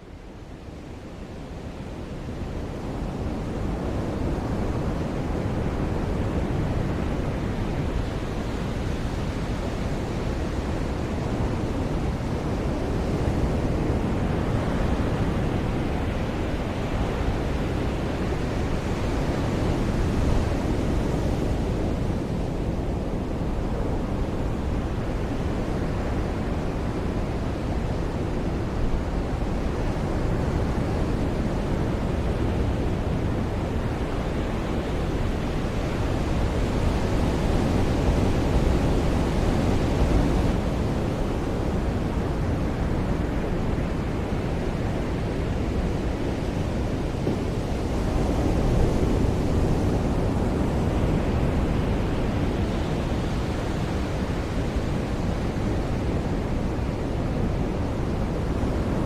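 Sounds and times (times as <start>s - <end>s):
ocean surf washing onto beach: 3.0s - 59.0s.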